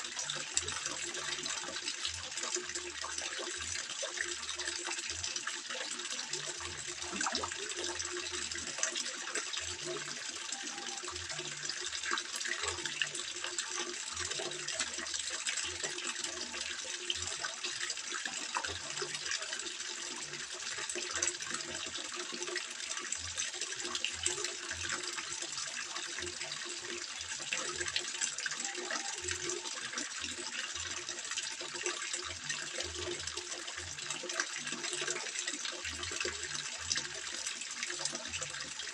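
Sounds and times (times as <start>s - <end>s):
water falling into a pond: 0.0s - 38.9s.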